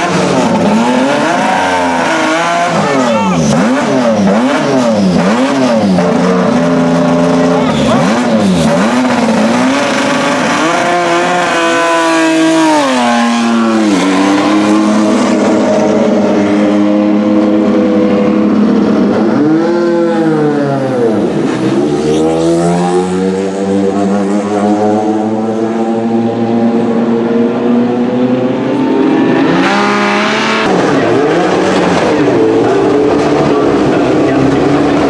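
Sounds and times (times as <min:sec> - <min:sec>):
racing car engine revving: 0:00.0 - 0:35.0.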